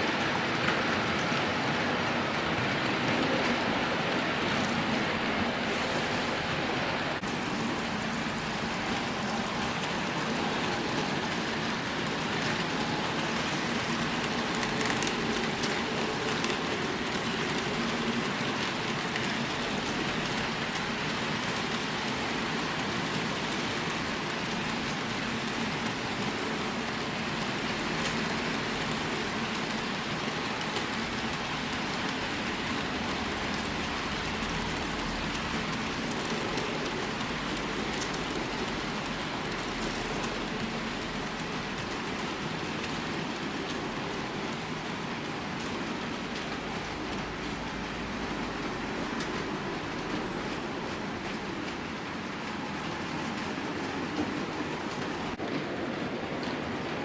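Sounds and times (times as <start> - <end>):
model train wheels clattering: 7.3 - 55.4.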